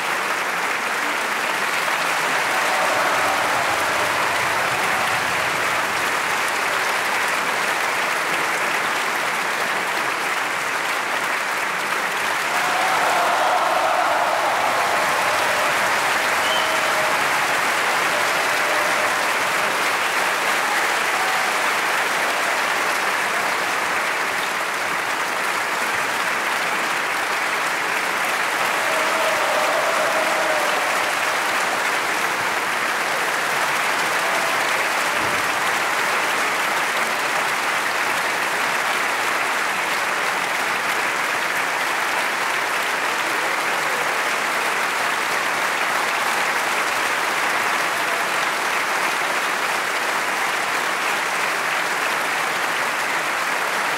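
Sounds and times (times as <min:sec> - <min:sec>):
audience applauding: 0:00.0 - 0:53.9.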